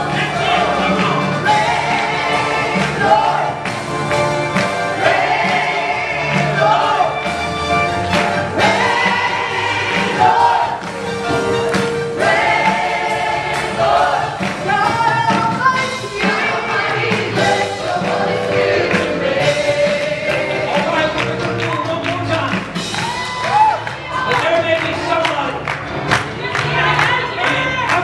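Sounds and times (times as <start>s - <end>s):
congregation singing gospel chorus: 0.0s - 21.6s, 26.0s - 28.0s
instrumental backing: 0.0s - 27.9s.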